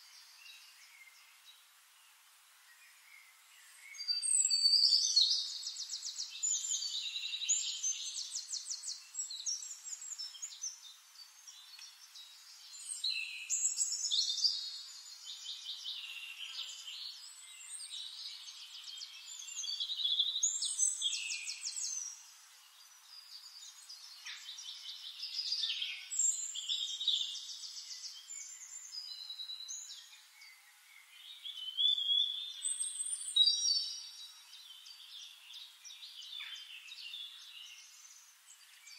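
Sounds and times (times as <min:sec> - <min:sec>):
birds singing trills: 0:00.0 - 0:38.9.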